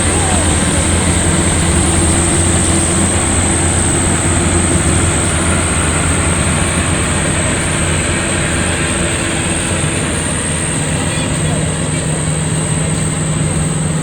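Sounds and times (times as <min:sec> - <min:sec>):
combine harvester engine drone: 0:00.0 - 0:14.0
high-pitched machine whine: 0:00.0 - 0:14.0.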